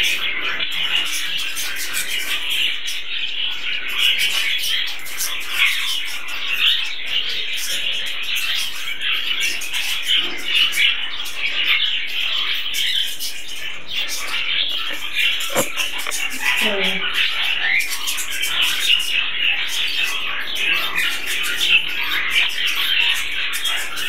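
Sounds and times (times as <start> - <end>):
budgerigars chattering: 0.0 - 24.0.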